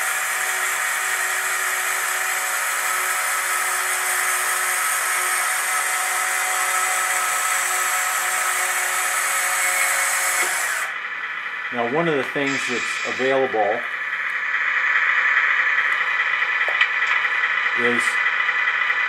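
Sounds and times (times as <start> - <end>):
electric motor whirring whine: 0.0 - 19.0.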